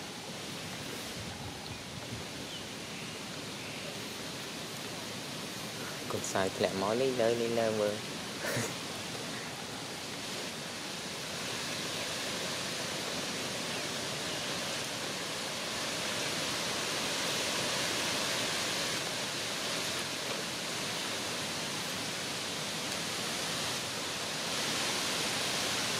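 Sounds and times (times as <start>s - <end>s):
steady outdoor hiss: 0.0s - 25.9s.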